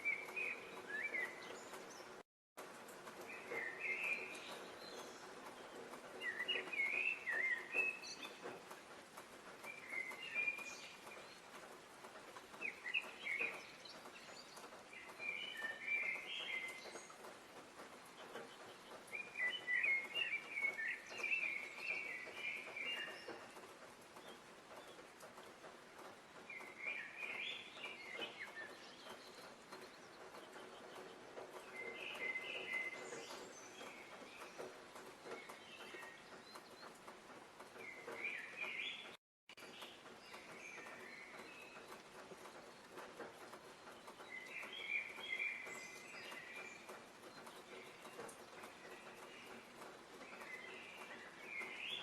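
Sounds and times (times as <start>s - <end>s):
bright bird calls: 0.0s - 2.2s, 3.2s - 8.8s, 9.6s - 52.0s
songbird singing: 0.0s - 2.2s, 2.8s - 52.0s
faint outdoor hiss: 0.0s - 52.0s.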